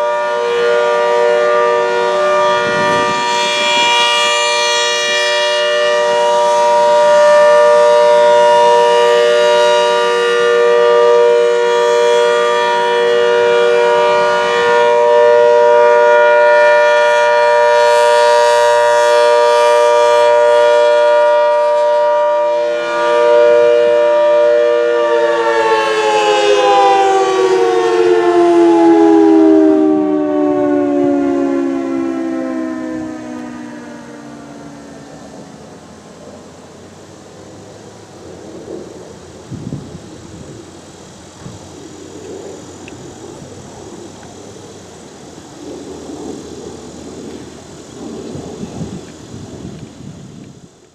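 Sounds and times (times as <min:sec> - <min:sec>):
mechanical warning siren: 0:00.0 - 0:50.9.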